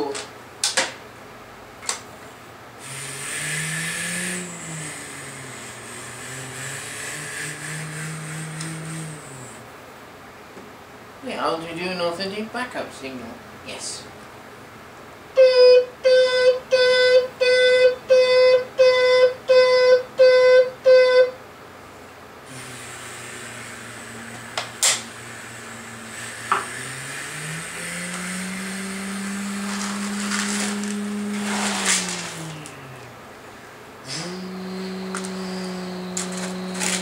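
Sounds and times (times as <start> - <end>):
low steady hum: 3.9 - 37.0.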